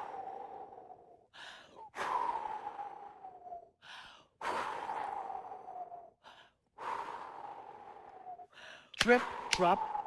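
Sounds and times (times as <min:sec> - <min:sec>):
quick in-breath: 0:00.0 - 0:10.0.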